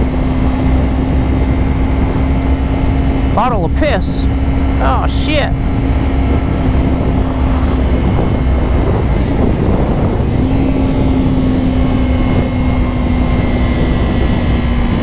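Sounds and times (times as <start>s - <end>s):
motorcycle engine cruising: 0.0s - 15.0s
wind noise on helmet mic: 0.0s - 15.0s.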